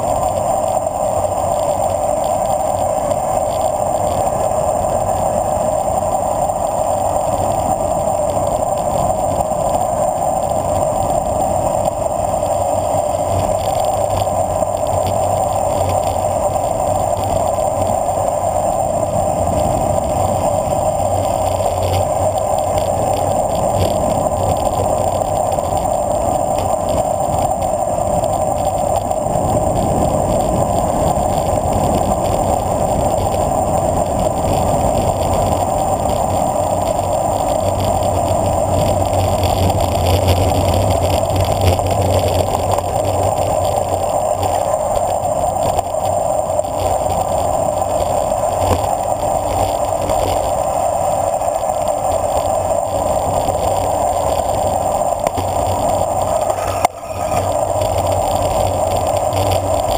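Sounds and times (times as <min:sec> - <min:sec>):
bicycle tyres on asphalt: 0:00.0 - 0:59.9.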